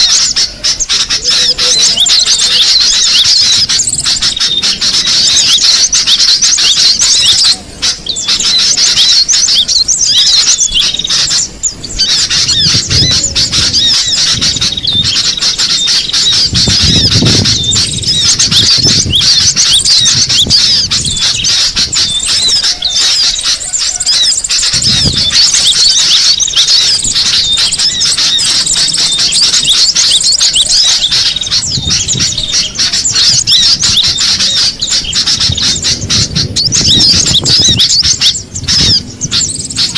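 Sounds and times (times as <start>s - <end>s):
bird chattering rapidly: 0.0s - 39.9s.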